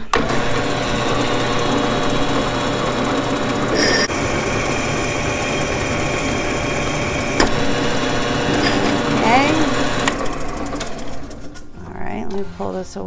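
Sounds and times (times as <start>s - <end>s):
drill press grinding glass: 0.0s - 11.7s.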